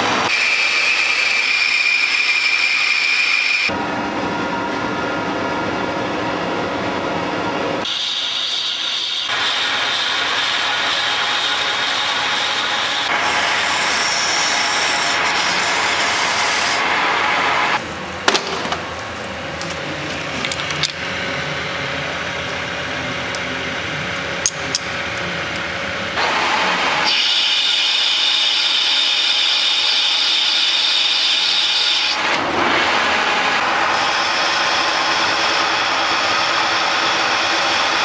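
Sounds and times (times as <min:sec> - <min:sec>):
metal lathe cutting: 0:00.0 - 0:03.8, 0:07.8 - 0:18.2, 0:18.9 - 0:38.0.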